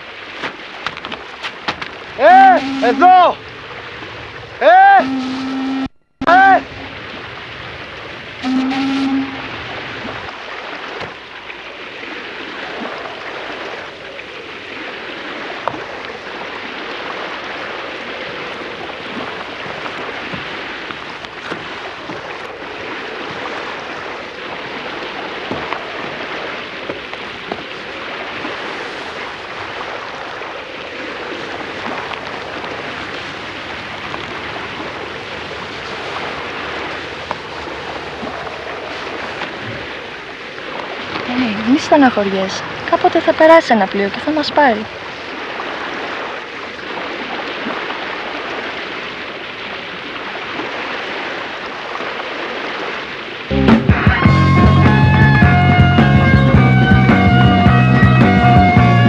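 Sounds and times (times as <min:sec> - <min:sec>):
sea surf on pebbles: 0:00.0 - 0:54.3
wind: 0:00.0 - 0:59.0.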